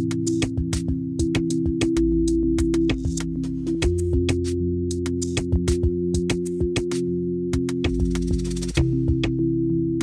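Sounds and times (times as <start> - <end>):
background music with percussive beat: 0.0 - 10.0.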